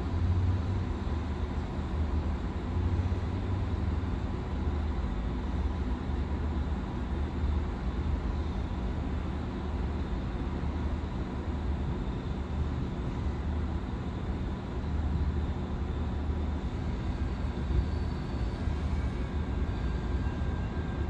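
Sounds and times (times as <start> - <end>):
diesel railcar engine rumble: 0.0 - 21.0.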